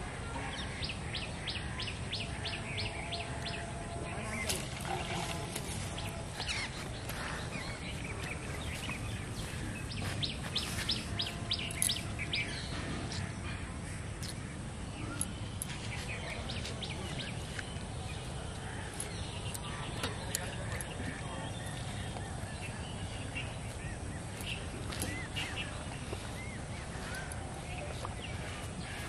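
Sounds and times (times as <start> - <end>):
small birds chirping: 0.2 - 29.0.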